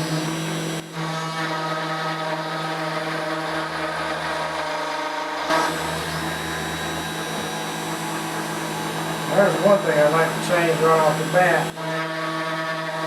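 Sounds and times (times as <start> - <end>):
router spindle motor whining: 0.0 - 13.0.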